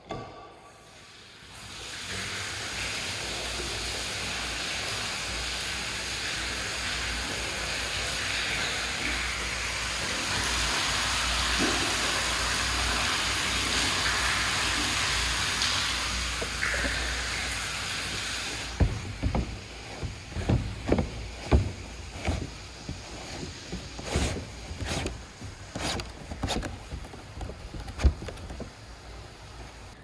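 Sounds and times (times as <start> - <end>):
water splashing into tank: 1.6 - 29.2.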